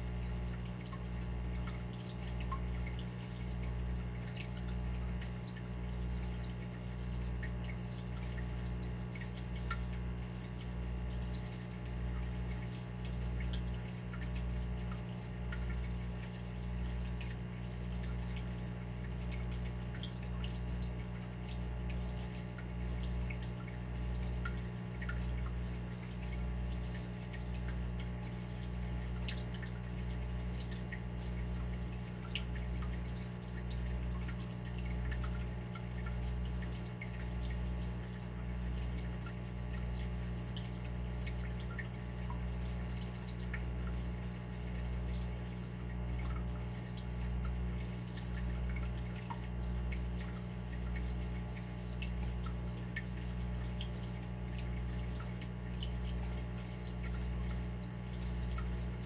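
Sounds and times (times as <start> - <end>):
water dripping: 0.1 - 59.0.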